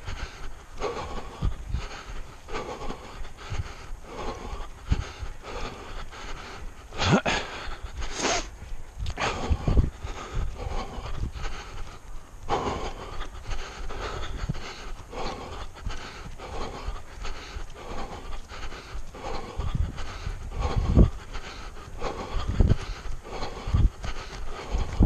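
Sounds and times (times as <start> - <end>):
runner panting: 0.0 - 25.0
wind rumble on microphone: 0.0 - 25.0.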